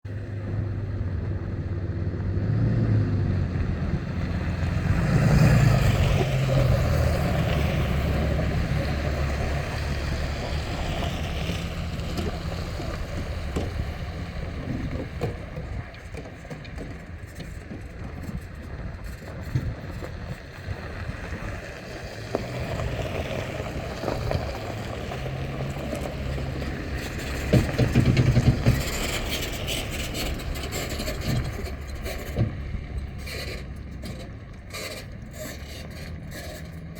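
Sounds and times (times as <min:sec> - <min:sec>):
truck engines rumbling: 0:00.0 - 0:36.9.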